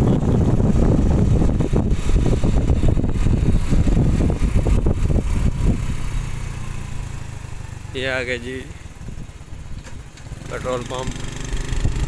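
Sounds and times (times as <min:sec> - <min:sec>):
wind rumble on microphone: 0:00.0 - 0:07.8, 0:08.8 - 0:12.0
vehicle engine noise: 0:00.0 - 0:12.0.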